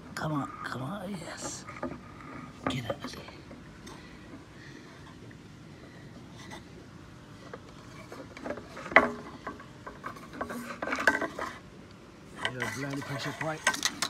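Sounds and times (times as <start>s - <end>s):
cane scraping against plastic: 0.5s - 5.3s, 6.2s - 11.7s, 12.3s - 14.0s.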